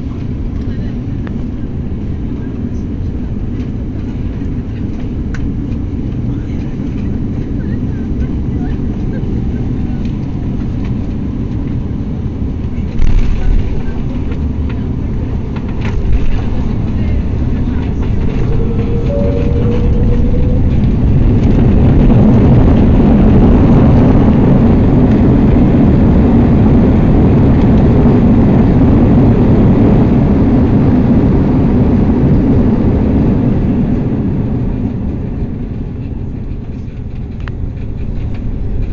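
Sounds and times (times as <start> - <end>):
airliner cabin engine roar: 0.0 - 38.9.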